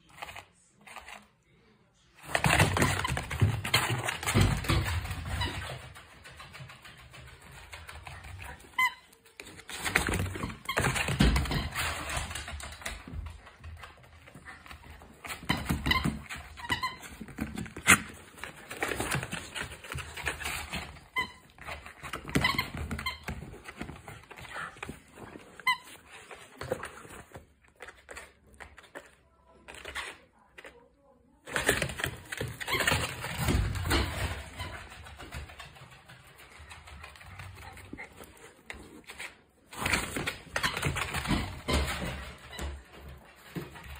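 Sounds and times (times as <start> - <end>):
dog scuffling on floor: 2.2 - 30.7, 31.4 - 43.9.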